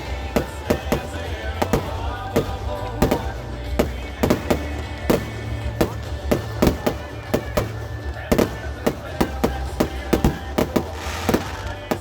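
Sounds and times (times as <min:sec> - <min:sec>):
fireworks bursting: 0:00.0 - 0:12.0
music: 0:00.0 - 0:12.0.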